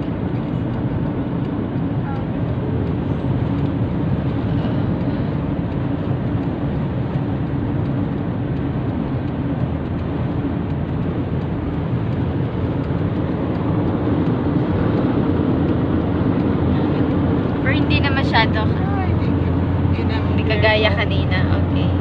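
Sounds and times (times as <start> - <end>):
gusty wind: 0.0 - 22.0
road noise inside moving car: 0.0 - 22.0.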